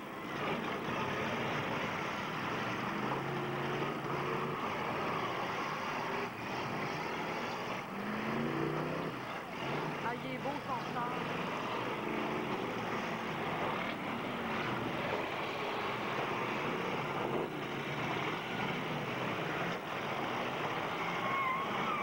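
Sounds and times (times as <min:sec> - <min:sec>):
car engines revving together: 0:00.0 - 0:22.0
engine revving up: 0:00.0 - 0:22.0.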